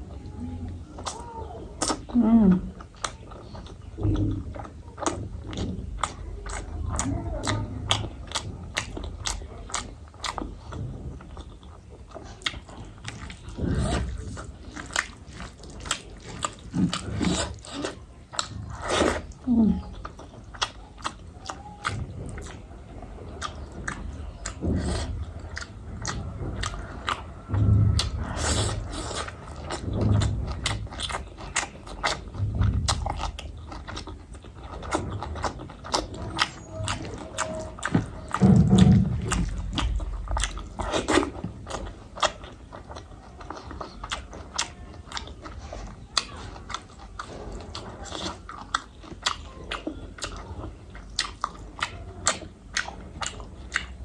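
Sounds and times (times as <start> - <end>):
chewing food: 0.0 - 54.0.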